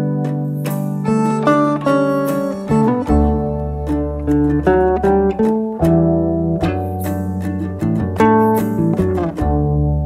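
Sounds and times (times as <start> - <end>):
acoustic guitar melody: 0.0 - 10.0.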